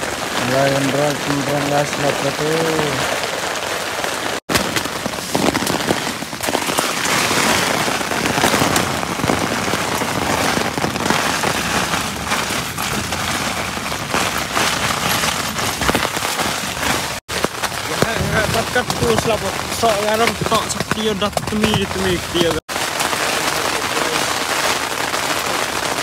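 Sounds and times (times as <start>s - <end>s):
heavy rain on tent fabric: 0.0s - 26.0s.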